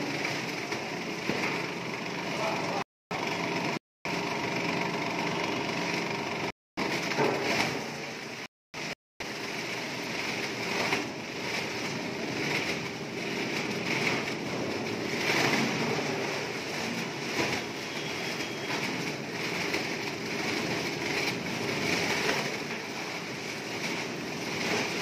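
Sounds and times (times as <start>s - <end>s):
machine churning packets: 0.0s - 25.0s.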